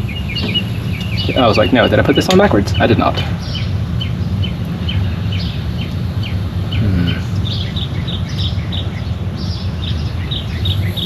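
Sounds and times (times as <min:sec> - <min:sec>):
birds chirping: 0:00.0 - 0:11.0
generator engine rumbling: 0:00.0 - 0:11.0.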